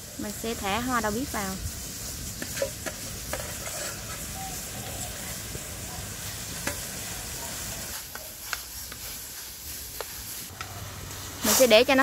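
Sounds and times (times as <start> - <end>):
burning wood crackling: 0.0 - 12.0
water boiling in a pan: 0.0 - 12.0.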